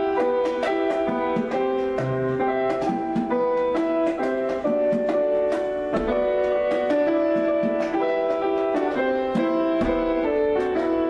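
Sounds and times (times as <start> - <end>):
hand drum strikes: 0.0 - 11.0
piano playing: 0.0 - 11.0.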